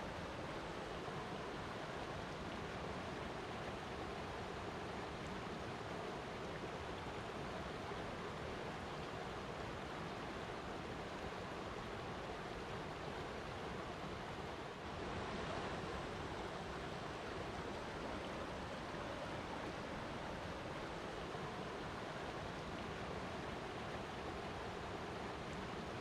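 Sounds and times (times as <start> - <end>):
water rushing: 0.0 - 26.0.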